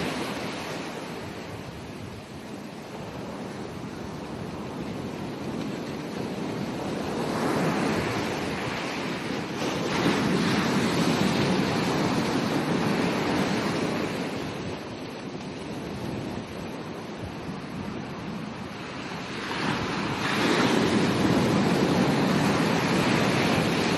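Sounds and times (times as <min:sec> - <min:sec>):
ocean waves breaking: 0:00.0 - 0:23.9
wind on microphone: 0:00.0 - 0:23.9.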